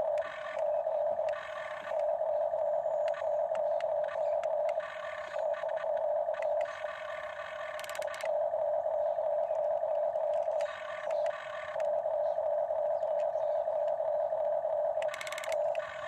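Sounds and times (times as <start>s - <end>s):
electric gear motors whining: 0.0s - 16.0s.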